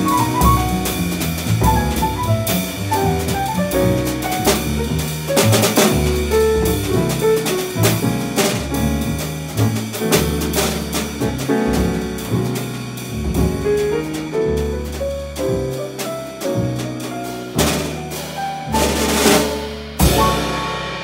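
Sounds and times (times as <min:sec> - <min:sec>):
drum kit with cymbal hits: 0:00.0 - 0:21.0
walking upright bass: 0:00.0 - 0:21.0.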